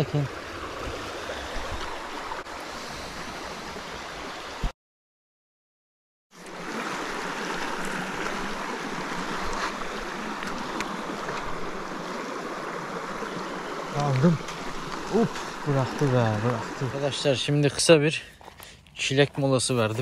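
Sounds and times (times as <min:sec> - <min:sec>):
stream running over rocks: 0:00.0 - 0:04.7, 0:06.4 - 0:20.0.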